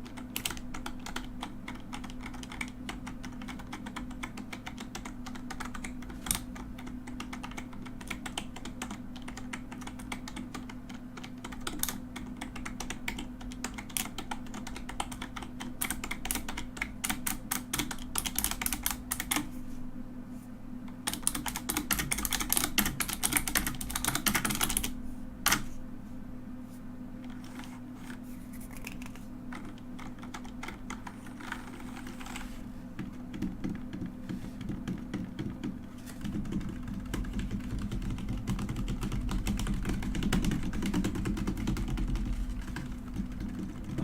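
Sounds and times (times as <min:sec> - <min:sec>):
mechanical keyboard typing: 0:00.0 - 0:19.5, 0:21.0 - 0:25.6, 0:27.3 - 0:44.0
steady low hum: 0:00.0 - 0:44.0.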